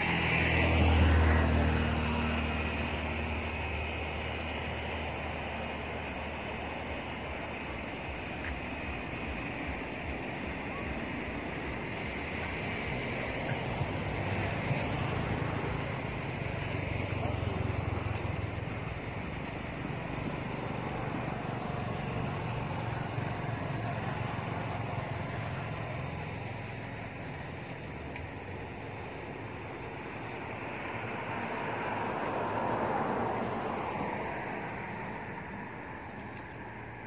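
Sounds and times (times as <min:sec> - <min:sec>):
distant traffic rumble: 0:00.0 - 0:37.0.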